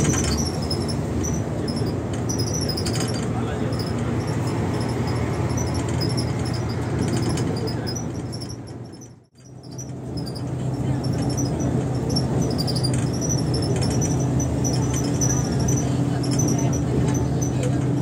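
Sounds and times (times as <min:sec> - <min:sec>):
faint high squeaks: 0:00.0 - 0:17.8
bus engine drone: 0:00.0 - 0:18.0.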